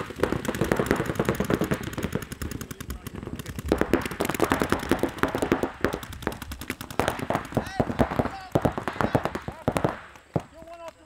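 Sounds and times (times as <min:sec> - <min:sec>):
paintball markers firing: 0:00.0 - 0:11.0.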